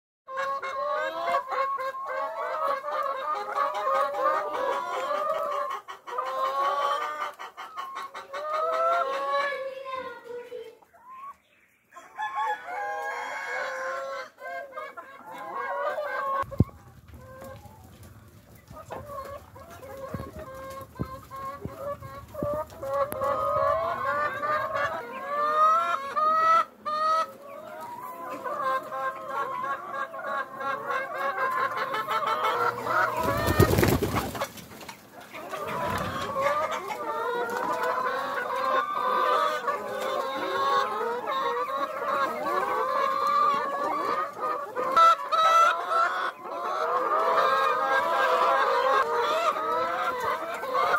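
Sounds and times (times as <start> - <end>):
hens clucking and squawking: 0.3 - 50.9.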